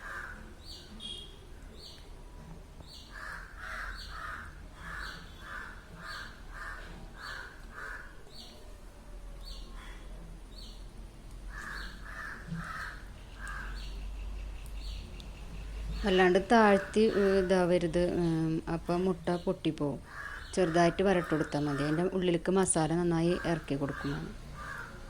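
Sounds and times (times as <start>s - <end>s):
harsh bird calls: 0.0s - 2.1s, 2.9s - 8.6s, 11.5s - 25.0s.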